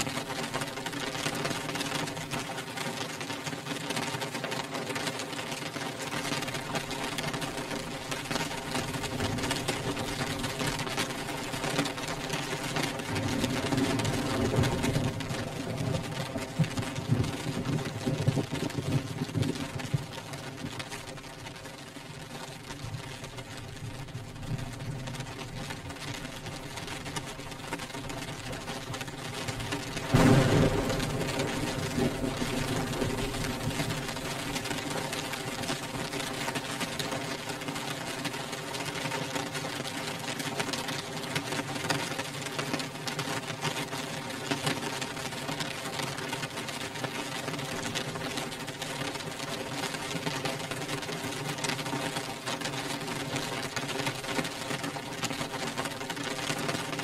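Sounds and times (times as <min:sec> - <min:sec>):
rain on a windowpane: 0:00.0 - 0:57.0.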